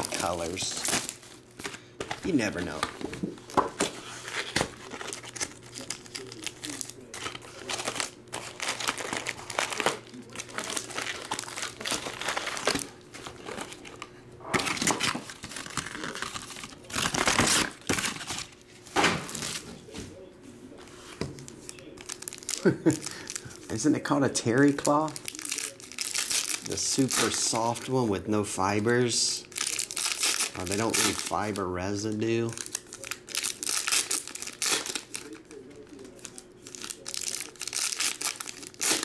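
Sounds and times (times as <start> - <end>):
foil packs crinkling: 0.0 - 18.6, 21.6 - 39.0.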